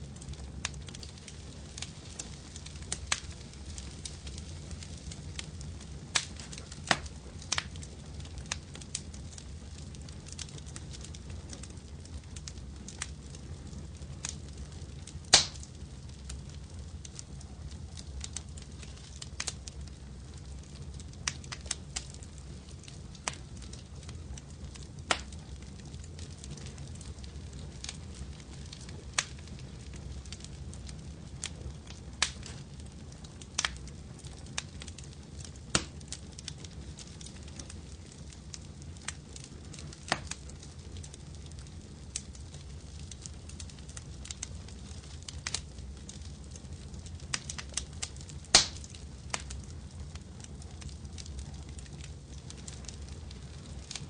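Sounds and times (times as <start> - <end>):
fire popping and snapping: 0.0 - 54.0
wood fire crackling: 0.0 - 54.0.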